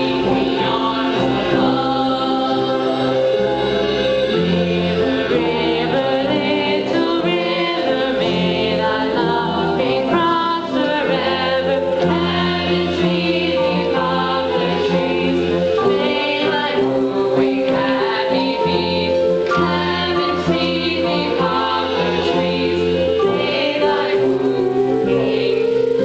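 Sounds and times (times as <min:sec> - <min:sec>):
chorus singing: 0:00.0 - 0:26.0.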